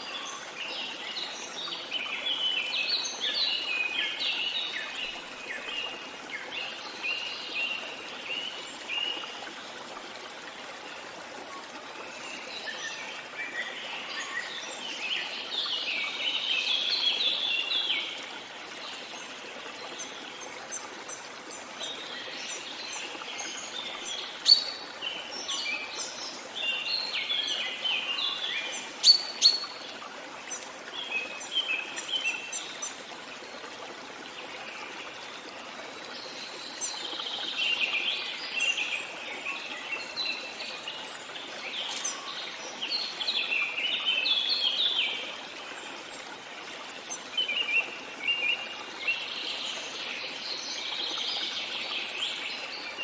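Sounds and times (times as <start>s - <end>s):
songbirds chirping: 0.0s - 53.0s
stream flowing: 0.0s - 53.0s.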